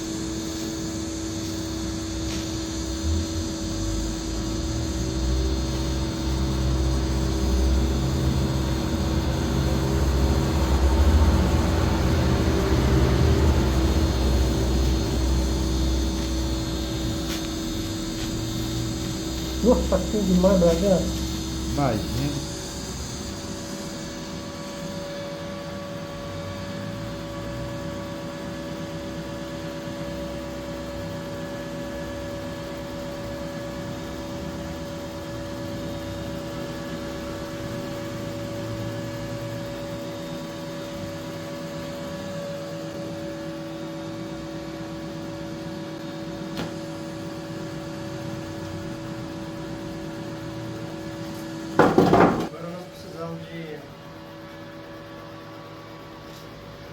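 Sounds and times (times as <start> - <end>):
welding arc hissing and humming: 0.0 - 51.8.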